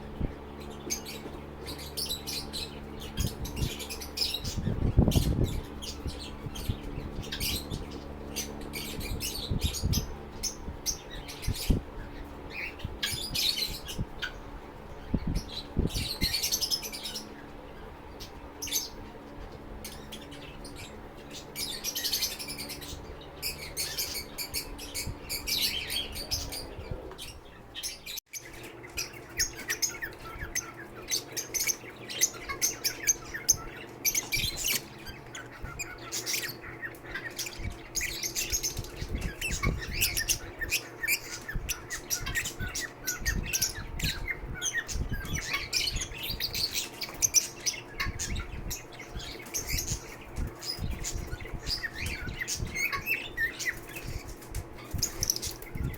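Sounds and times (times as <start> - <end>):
lovebirds chirping and squawking: 0.0 - 55.9.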